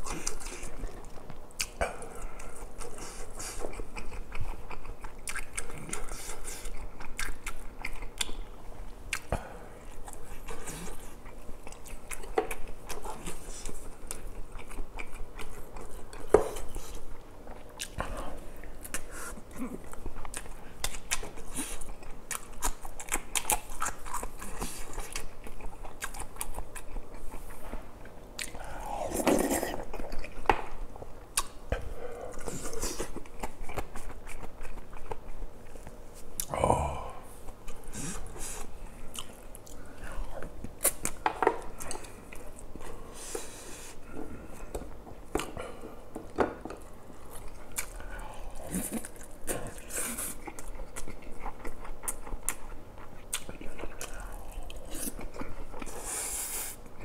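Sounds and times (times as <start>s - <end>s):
person chewing with wet mouth sounds: 0.0s - 57.0s.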